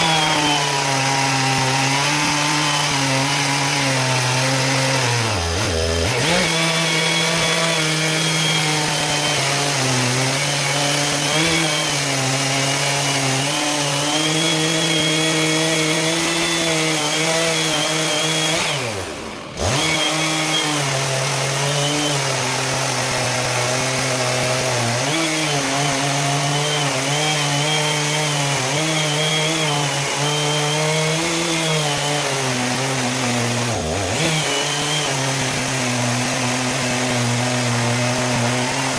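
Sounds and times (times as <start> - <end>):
chainsaw sawing a log: 0.0 - 38.9.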